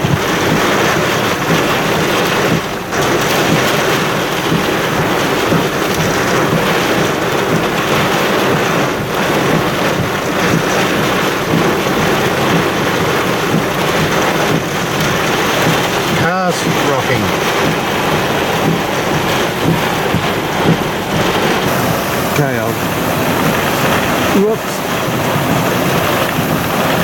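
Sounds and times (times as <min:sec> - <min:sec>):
heavy rain and wind on car: 0:00.0 - 0:27.0.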